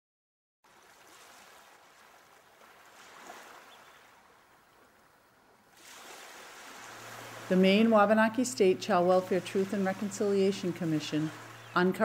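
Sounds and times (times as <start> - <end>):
faint moving water: 0.6 - 12.0.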